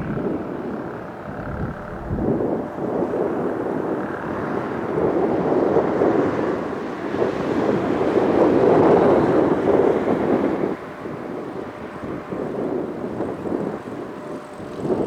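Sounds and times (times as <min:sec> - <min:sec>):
airplane passing overhead: 0:00.0 - 0:15.0.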